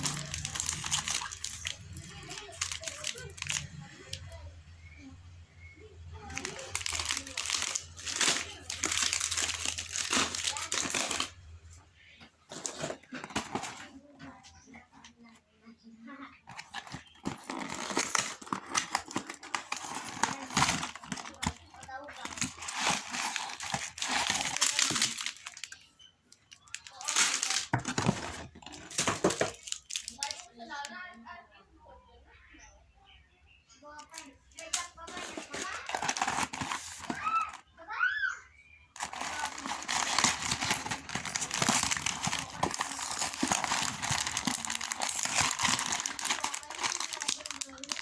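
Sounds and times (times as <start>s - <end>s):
plastic wrappers crinkling: 0.0s - 4.4s, 6.0s - 11.7s, 12.4s - 15.0s, 16.4s - 31.1s, 33.9s - 37.6s, 38.9s - 48.0s.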